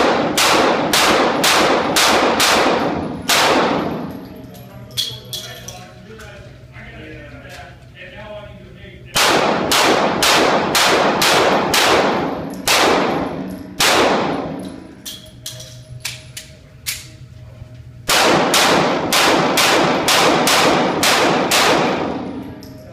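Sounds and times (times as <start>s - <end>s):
pistol shots echoing indoors: 0.0s - 5.8s, 9.1s - 17.2s, 18.0s - 22.8s.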